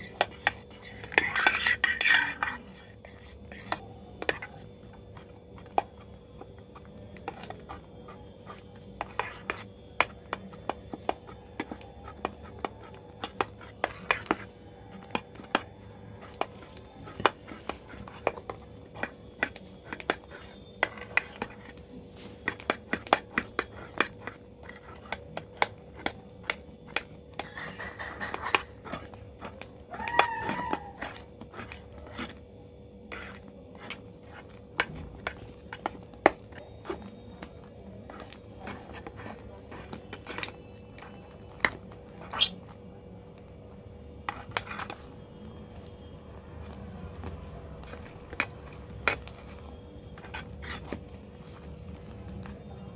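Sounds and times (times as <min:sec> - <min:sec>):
wet stirring of slime: 0:00.0 - 0:52.9.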